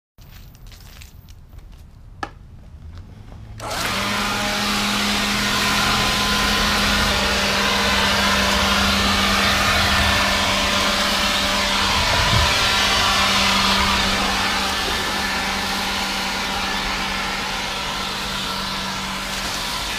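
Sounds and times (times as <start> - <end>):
leaf blower running: 3.6 - 19.9.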